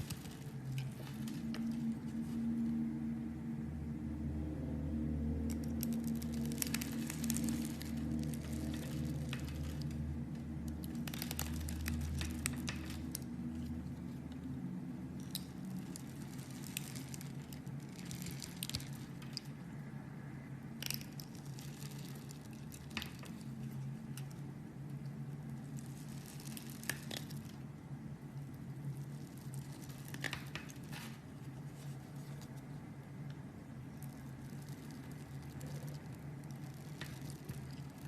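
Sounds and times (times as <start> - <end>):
soft material squishing and crackling: 0.0 - 3.5, 5.1 - 38.0.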